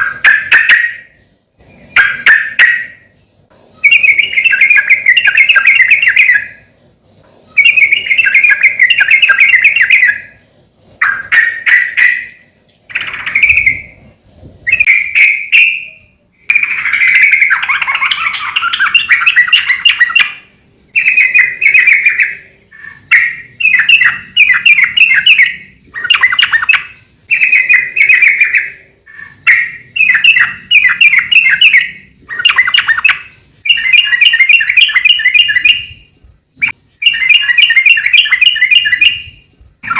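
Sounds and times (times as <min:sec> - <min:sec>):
bird singing bubbly phrases: 0:03.7 - 0:06.7, 0:07.5 - 0:10.4, 0:11.0 - 0:39.9.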